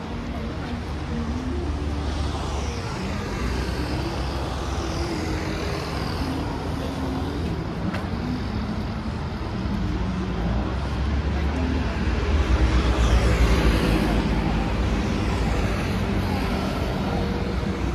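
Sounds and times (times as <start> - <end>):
vehicle engines passing: 0.0 - 17.9.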